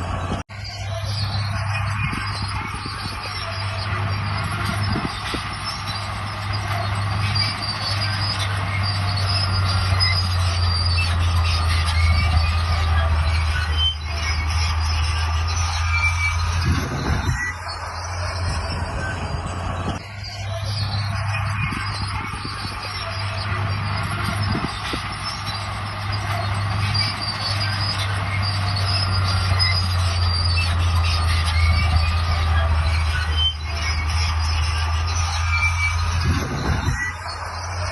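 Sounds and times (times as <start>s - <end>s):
diesel engine drone: 0.0s - 37.9s
metallic squealing of steel tracks: 0.0s - 37.9s.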